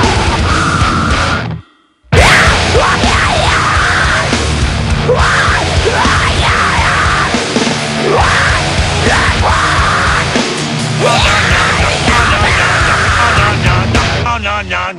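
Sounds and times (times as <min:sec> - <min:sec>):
death metal song: 0:00.0 - 0:14.9.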